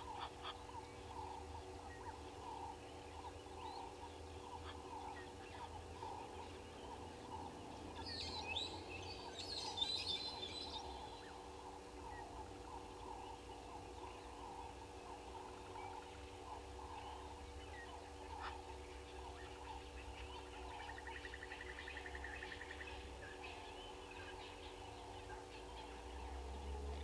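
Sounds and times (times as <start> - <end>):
low bird calls: 0.0 - 27.0.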